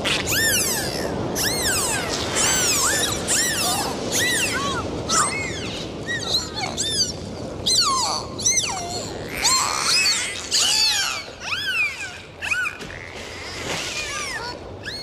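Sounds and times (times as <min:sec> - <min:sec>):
animal cries rising and falling: 0:00.1 - 0:15.0.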